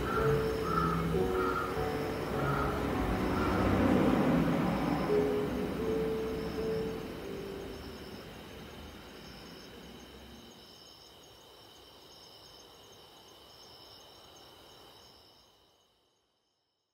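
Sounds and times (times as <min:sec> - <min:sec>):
insects trilling: 0:00.0 - 0:16.6.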